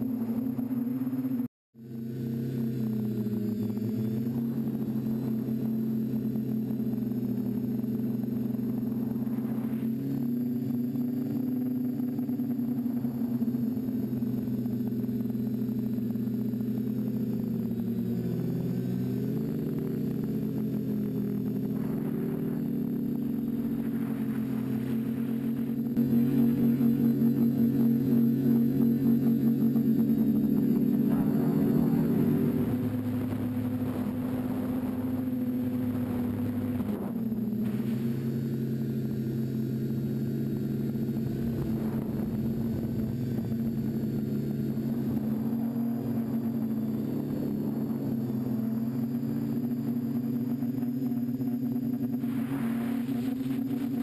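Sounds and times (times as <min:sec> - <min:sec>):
quadcopter motors humming: 0:00.0 - 0:54.0.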